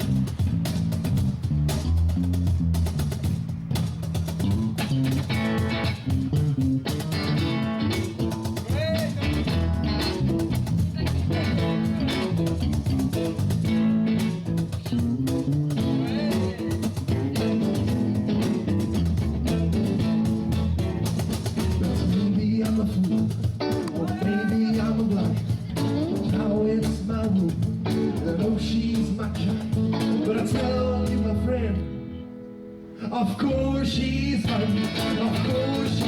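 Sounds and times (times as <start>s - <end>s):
bass and drums: 0.0s - 32.2s, 32.8s - 36.0s
lead guitar: 3.7s - 36.0s.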